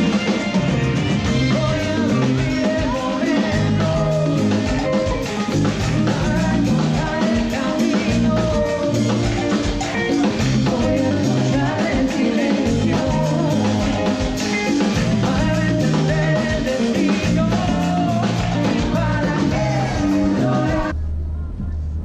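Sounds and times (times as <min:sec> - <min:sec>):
live band dance music: 0:00.0 - 0:20.9
vocalists singing: 0:01.2 - 0:21.0.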